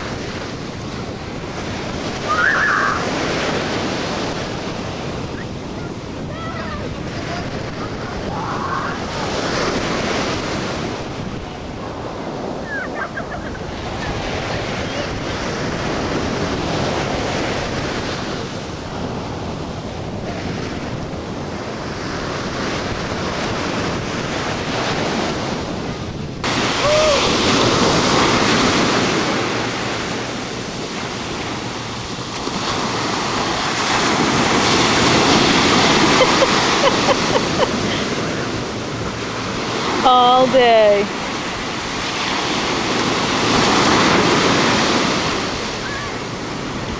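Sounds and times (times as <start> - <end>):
surf washing on beach: 0.0 - 46.9
wind buffeting microphone: 0.0 - 46.9.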